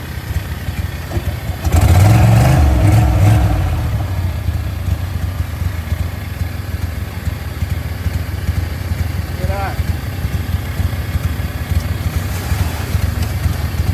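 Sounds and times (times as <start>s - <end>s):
engine revving and idling: 0.0s - 13.9s.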